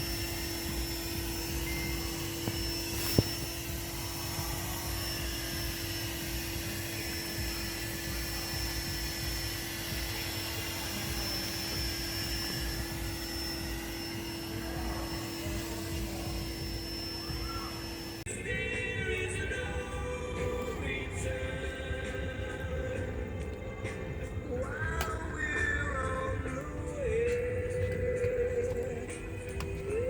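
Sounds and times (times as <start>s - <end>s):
faint high whine: 0.0s - 30.0s
mechanical drone with low hum: 0.0s - 30.0s.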